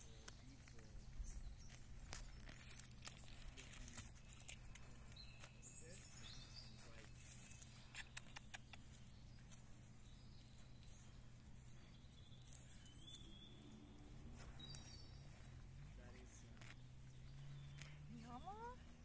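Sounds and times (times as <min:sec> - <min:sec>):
faint bird chirps: 0:00.0 - 0:18.9.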